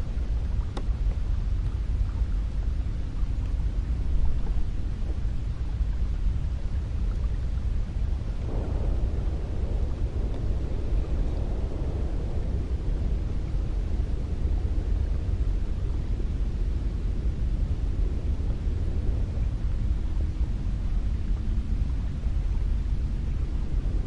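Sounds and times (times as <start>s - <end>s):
wind blowing: 3.6s - 24.0s.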